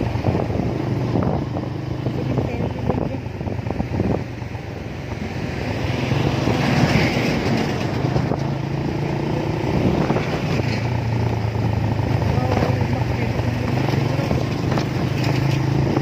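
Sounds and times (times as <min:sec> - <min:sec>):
road and wind noise: 0:00.0 - 0:16.0
vehicle engine running: 0:00.0 - 0:16.0.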